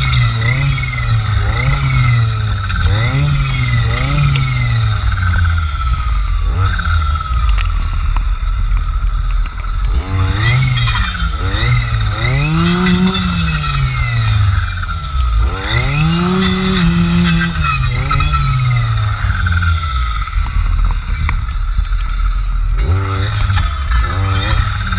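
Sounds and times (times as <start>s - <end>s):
clearing saw engine revving: 0.0s - 8.2s, 9.5s - 24.9s.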